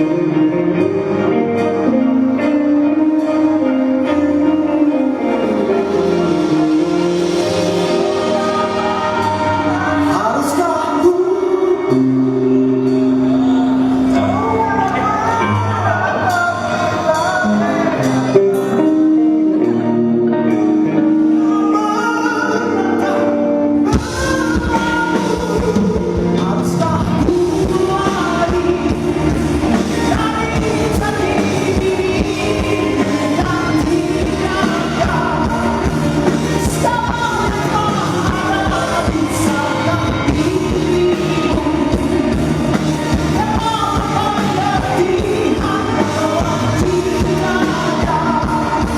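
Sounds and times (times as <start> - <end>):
heavy metal band playing live: 0.0 - 48.9
lead singer singing: 0.0 - 48.9.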